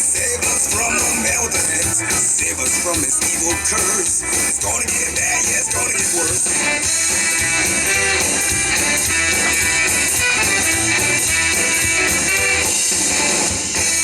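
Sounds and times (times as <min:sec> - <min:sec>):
rock song led by guitar: 0:00.0 - 0:14.0.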